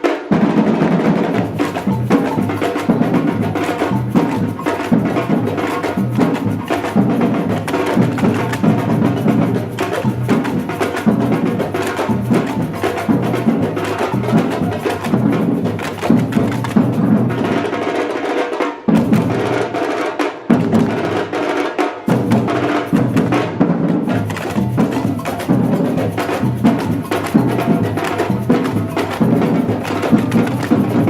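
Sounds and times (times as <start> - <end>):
samba drum ensemble: 0.0 - 31.0
clacking high percussion: 0.1 - 18.2, 22.1 - 31.0.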